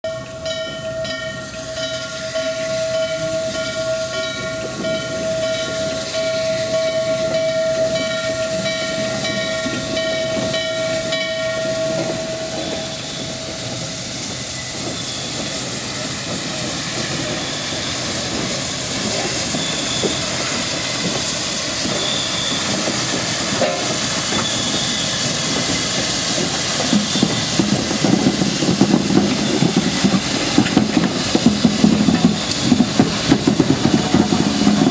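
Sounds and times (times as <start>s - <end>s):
locomotive bell ringing: 0.0s - 34.9s
steam locomotive exhaust and running gear: 0.1s - 34.9s
steam hissing: 1.9s - 34.9s.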